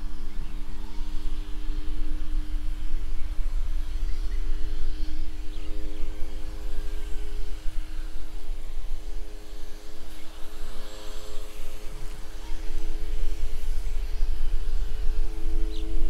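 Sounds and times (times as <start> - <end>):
distant jet engines droning: 0.0 - 16.0.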